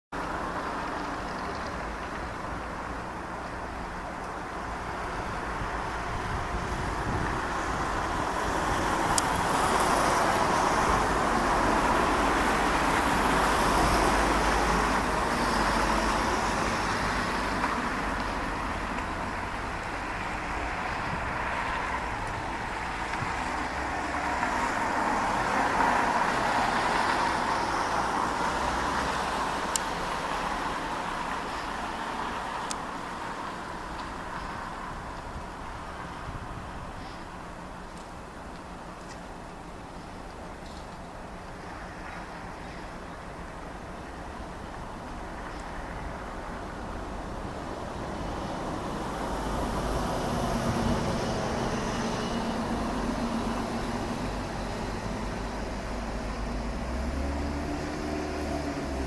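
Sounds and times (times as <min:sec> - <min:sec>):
road traffic noise: 0:00.1 - 0:59.0.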